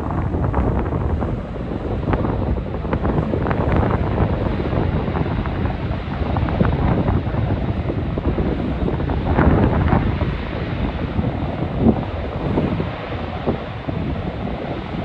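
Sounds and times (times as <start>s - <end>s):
wind gusts buffeting microphone: 0.0s - 15.0s.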